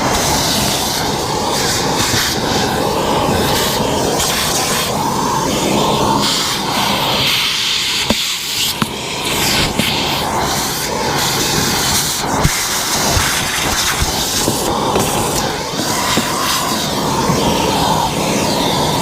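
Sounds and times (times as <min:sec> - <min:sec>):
shop vac running: 0:00.0 - 0:19.0.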